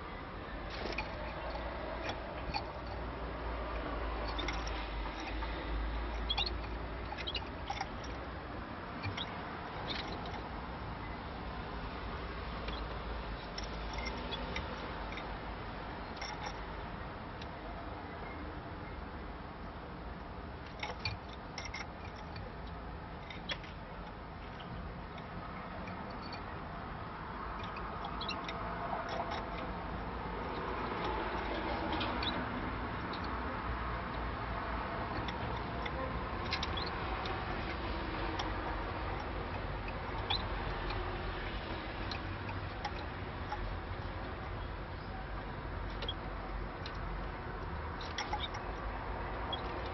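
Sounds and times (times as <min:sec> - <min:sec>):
canaries chirping: 0:00.0 - 0:49.9.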